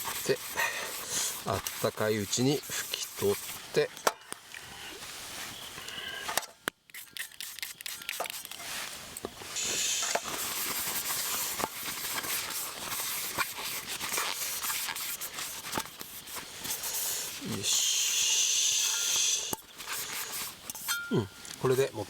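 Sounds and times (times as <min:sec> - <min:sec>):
paper rustling and rubbing in pot: 0:00.0 - 0:06.1, 0:06.8 - 0:22.0.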